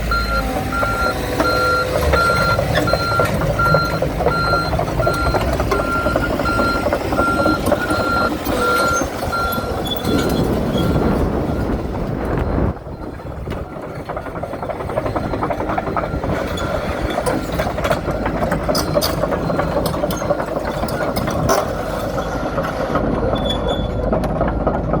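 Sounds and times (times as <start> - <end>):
diesel engine rumble: 0.0 - 25.0
metal clanks and rattles: 0.7 - 25.0.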